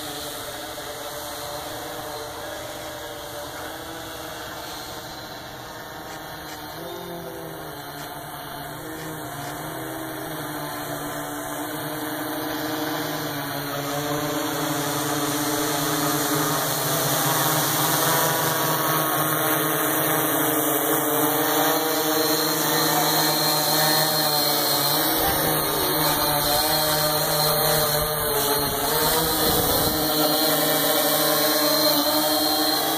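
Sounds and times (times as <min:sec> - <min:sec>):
drone propellers whirring: 0:00.0 - 0:32.9.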